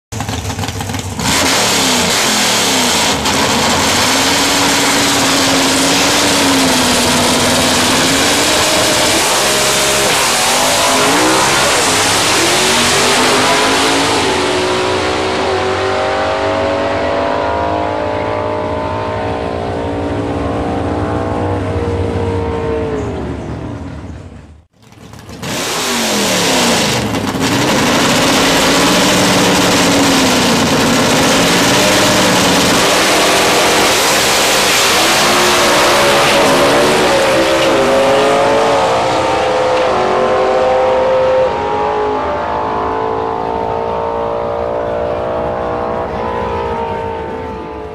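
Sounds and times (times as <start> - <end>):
drag racing car engine running: 0.1 - 22.1, 23.0 - 40.6.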